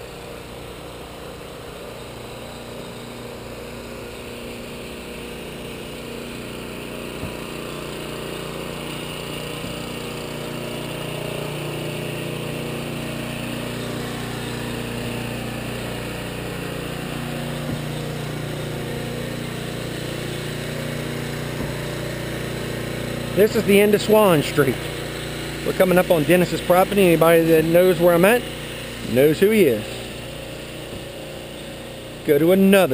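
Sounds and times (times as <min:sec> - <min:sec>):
outboard motor droning: 0:00.0 - 0:32.9.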